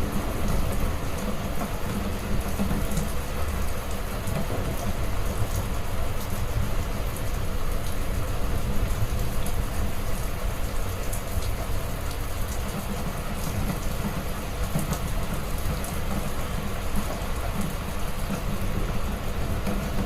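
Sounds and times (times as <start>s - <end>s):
heavy rain hissing: 0.0s - 20.0s
rain drop ticks: 0.2s - 20.0s.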